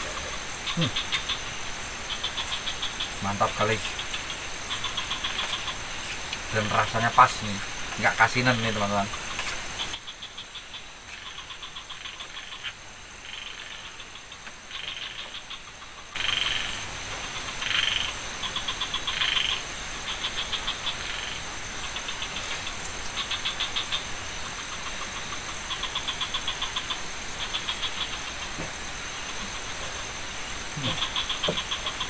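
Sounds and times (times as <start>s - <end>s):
background hiss: 0.0s - 32.0s
frogs croaking: 0.0s - 32.0s.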